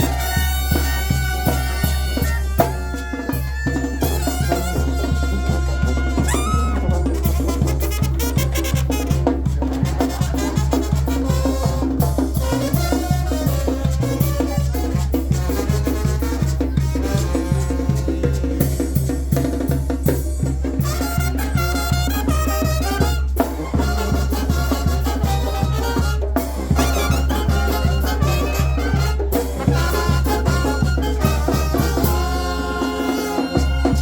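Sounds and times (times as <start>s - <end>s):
brass band playing: 0.0s - 34.0s
drums and bass beat: 0.0s - 34.0s.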